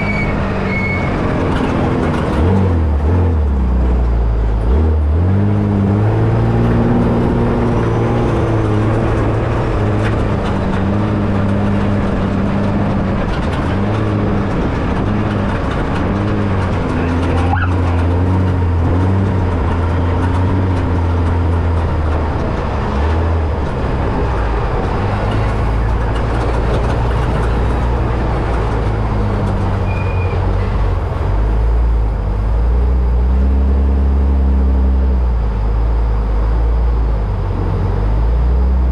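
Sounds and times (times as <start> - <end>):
truck engine running hard: 0.0 - 38.9.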